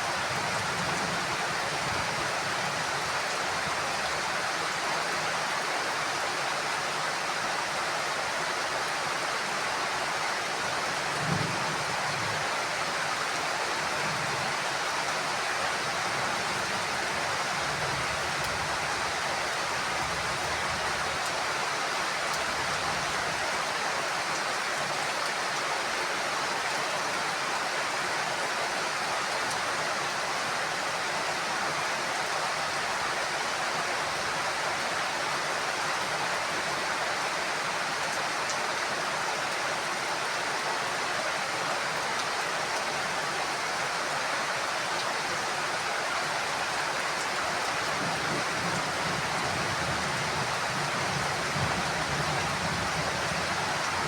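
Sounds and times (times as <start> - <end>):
heavy rain on roof: 0.0 - 54.0.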